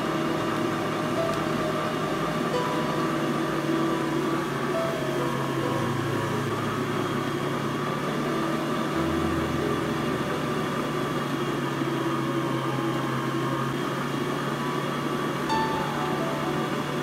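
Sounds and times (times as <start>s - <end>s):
food processor kneading dough: 0.0s - 15.5s.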